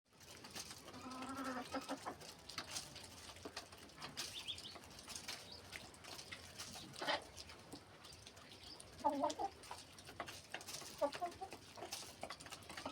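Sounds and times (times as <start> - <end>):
chickens clucking: 0.4 - 12.9.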